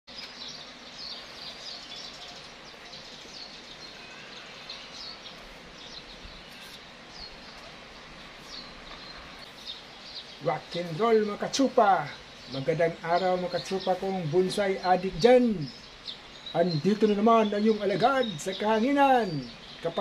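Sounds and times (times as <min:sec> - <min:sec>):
small birds chirping: 0:00.1 - 0:20.0
steady background noise: 0:00.1 - 0:20.0.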